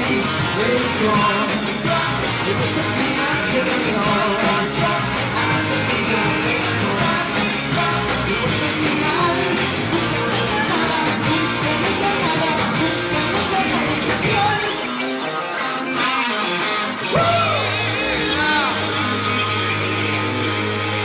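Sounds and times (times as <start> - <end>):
drums: 0.0 - 21.0
electric guitars: 0.0 - 21.0.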